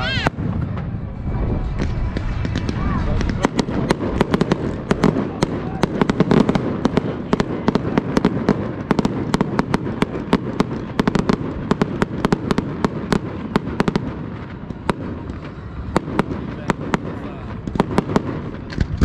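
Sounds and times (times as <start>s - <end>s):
fireworks bangs and crackles: 0.0s - 19.0s
low rumble of shell bursts: 0.1s - 19.0s.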